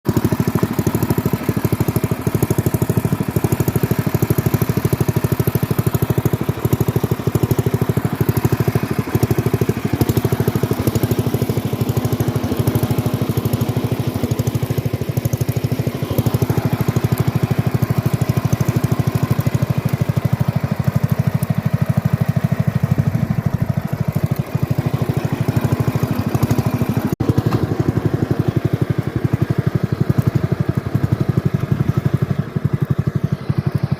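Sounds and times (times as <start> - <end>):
garden tractor engine running: 0.0 - 33.9.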